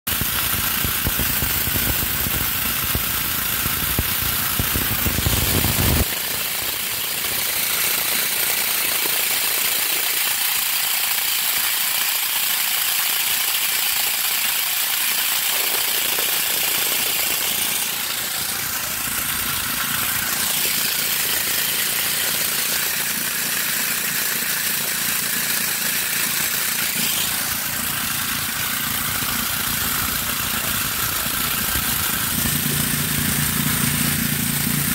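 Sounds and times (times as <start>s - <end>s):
electric corn grinder grinding: 0.1s - 34.9s.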